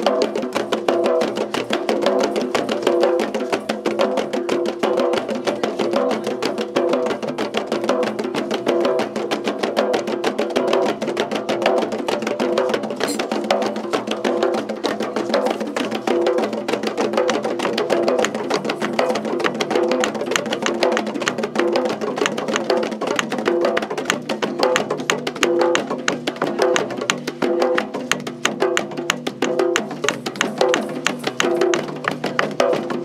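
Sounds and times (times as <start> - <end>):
rapid percussion strikes: 0.0 - 33.0.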